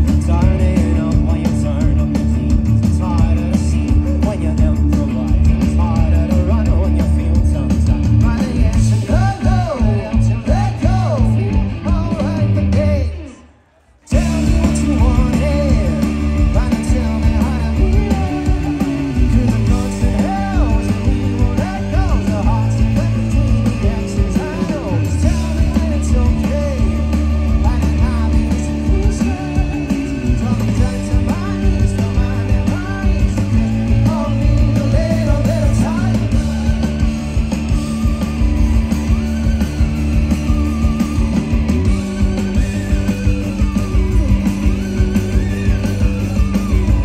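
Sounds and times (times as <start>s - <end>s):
man singing lead vocal: 0.0s - 40.0s
rock band playing live: 0.0s - 47.0s.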